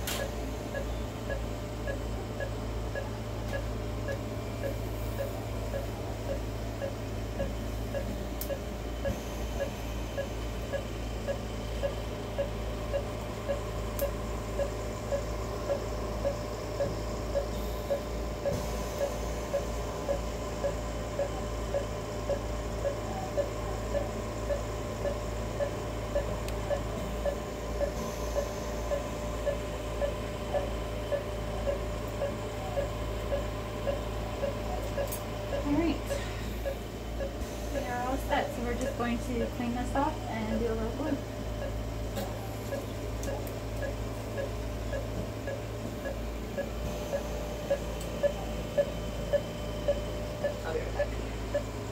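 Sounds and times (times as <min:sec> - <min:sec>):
low steady hum: 0:00.0 - 0:51.9
patient monitor beeping: 0:00.0 - 0:51.9.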